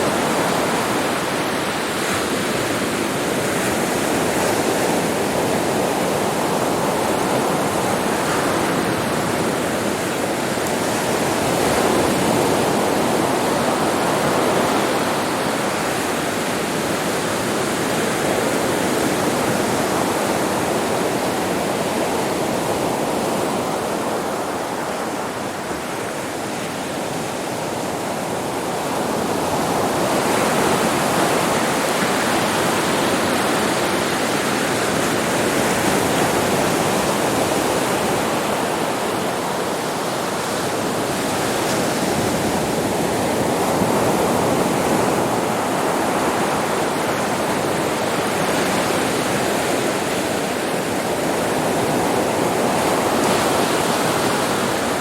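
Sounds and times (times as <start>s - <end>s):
ocean waves washing onto beach: 0.0s - 55.0s.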